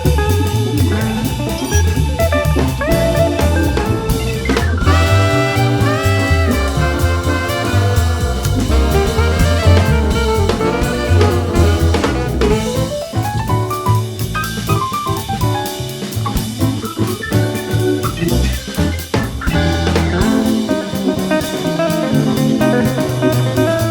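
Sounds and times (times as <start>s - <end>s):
upbeat jazz with drums and horns: 0.0s - 23.9s.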